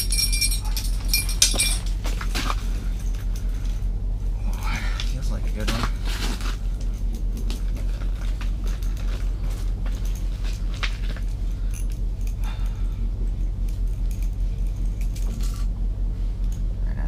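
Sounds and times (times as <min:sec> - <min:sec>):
light clicks and rattles: 0:00.0 - 0:03.8, 0:04.4 - 0:15.8
pulsing mechanical hum: 0:00.0 - 0:17.0.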